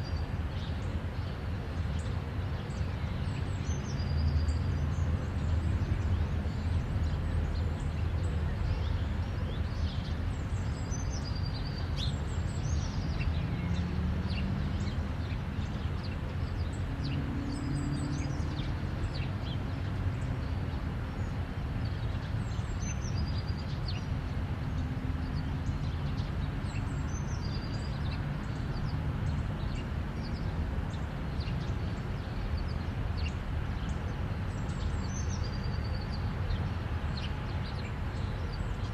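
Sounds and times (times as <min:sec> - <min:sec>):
highway traffic rumble: 0:00.0 - 0:38.9.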